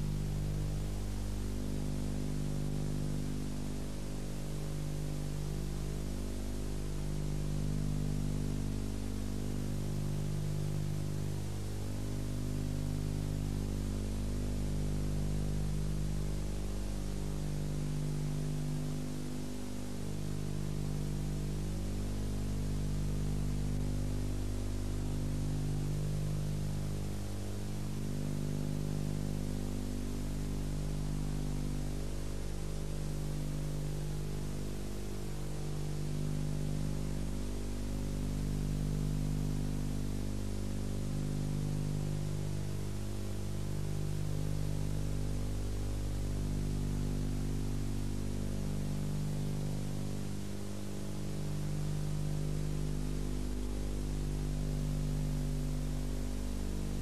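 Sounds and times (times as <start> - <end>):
constant hiss: 0.0 - 57.0
low electrical hum: 0.0 - 57.0.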